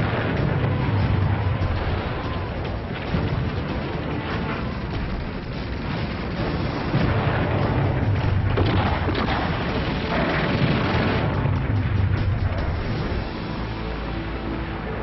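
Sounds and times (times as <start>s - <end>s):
rumbling explosions: 0.0s - 15.0s.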